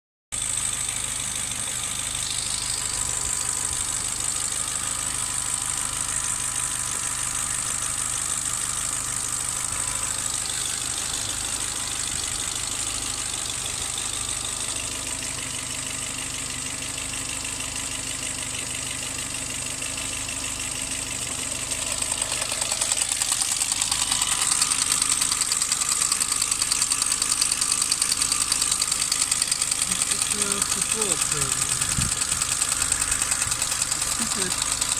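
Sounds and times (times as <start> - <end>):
car engine idling: 0.3 - 34.9
fast even engine knocking: 0.4 - 34.9.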